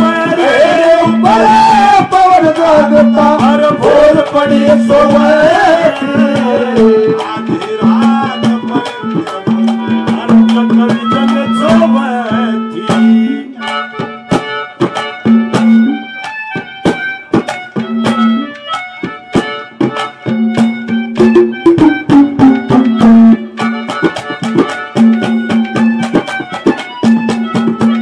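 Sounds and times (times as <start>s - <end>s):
hand drum strokes: 0.0s - 16.1s, 16.8s - 28.0s
harmonium drone and melody: 0.0s - 28.0s.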